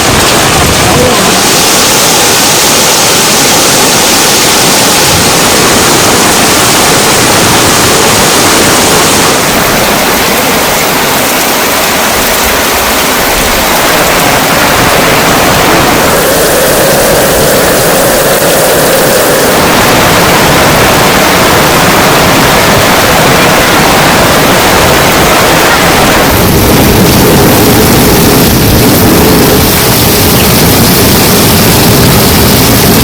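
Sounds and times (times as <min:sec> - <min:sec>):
heavy rain hissing: 0:00.0 - 0:33.0.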